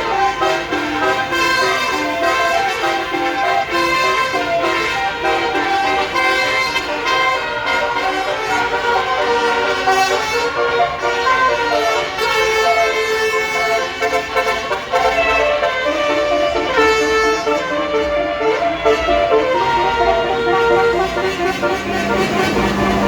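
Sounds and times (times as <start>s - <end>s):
bus air horn melody: 0.0s - 23.0s.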